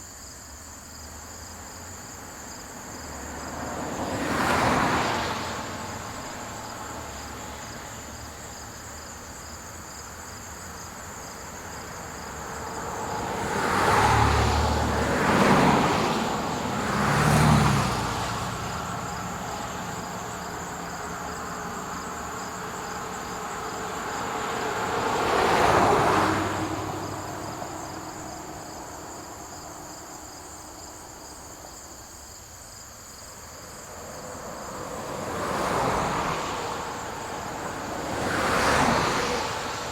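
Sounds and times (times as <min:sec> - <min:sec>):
crickets chirring: 0:00.0 - 0:39.9
vehicles passing on road: 0:00.0 - 0:39.9.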